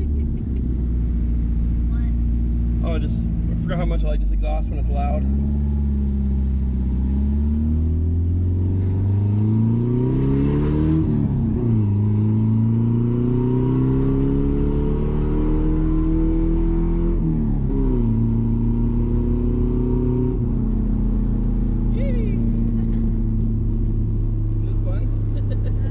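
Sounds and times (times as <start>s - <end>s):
pickup engine accelerating: 0.0s - 25.9s.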